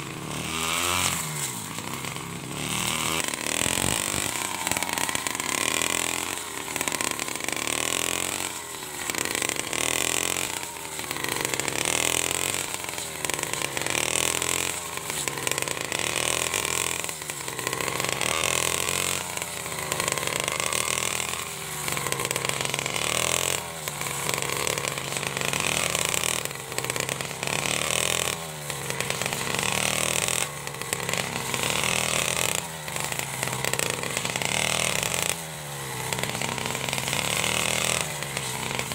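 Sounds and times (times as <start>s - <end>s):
brush cutter engine revving: 0.0s - 38.9s.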